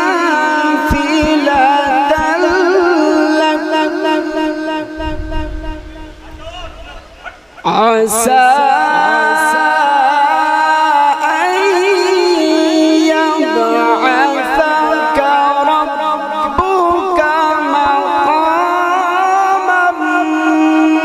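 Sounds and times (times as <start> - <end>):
man reciting melodically into a microphone: 0.0 - 21.0.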